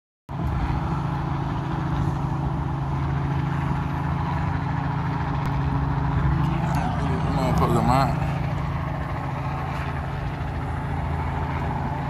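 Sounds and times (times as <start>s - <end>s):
engine drone: 0.3s - 12.0s.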